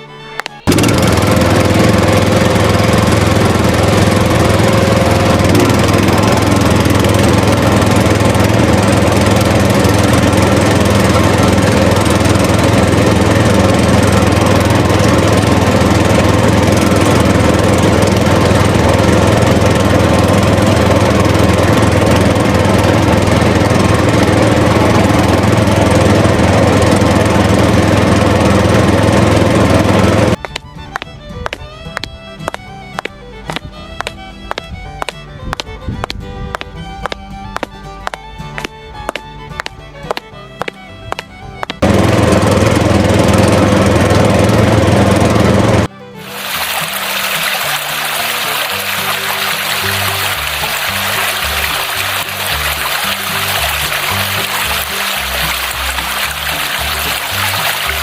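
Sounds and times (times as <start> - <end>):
small motor droning: 0.0 - 58.0.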